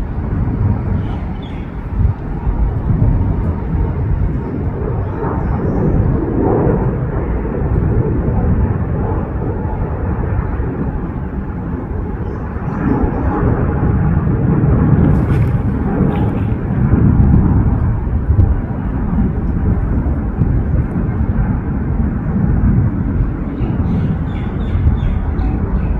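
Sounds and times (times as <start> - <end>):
jet engines roaring: 0.0 - 25.9.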